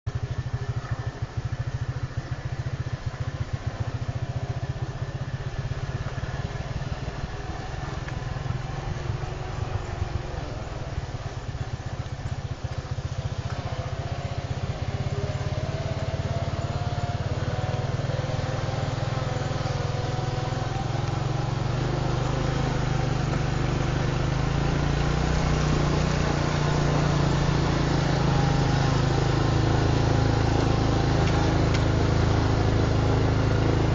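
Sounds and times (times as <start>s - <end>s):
engine running: 0.1s - 33.9s.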